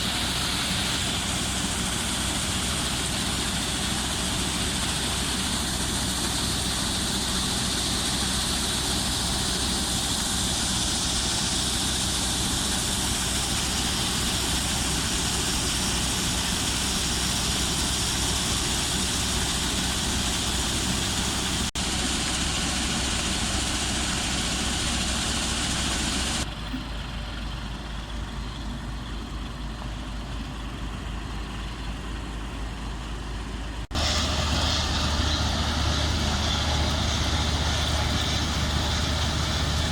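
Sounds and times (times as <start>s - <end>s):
loud mechanical hiss: 0.0s - 26.5s, 33.9s - 39.9s
combine harvester engine drone: 0.0s - 39.9s.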